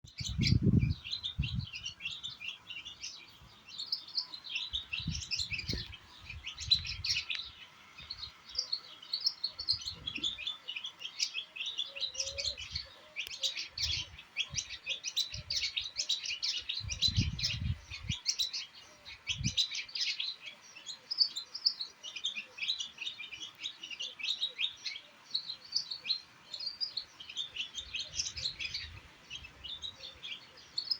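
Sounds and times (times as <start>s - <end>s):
small birds chirping: 0.0s - 30.9s.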